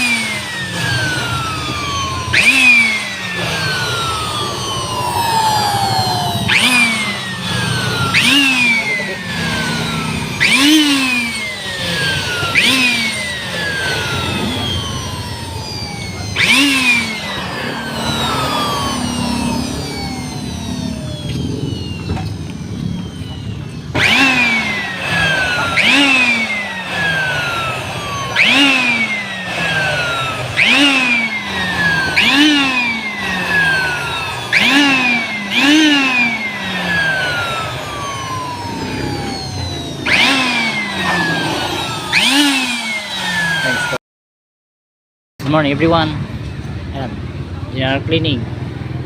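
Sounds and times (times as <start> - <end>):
electric blower whining: 0.0 - 44.0.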